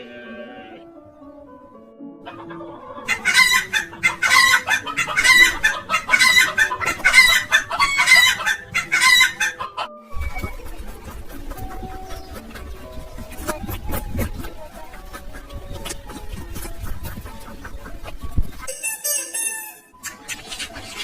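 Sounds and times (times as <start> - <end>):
soft background music: 0.0 - 21.0
chickens clucking: 2.2 - 21.0.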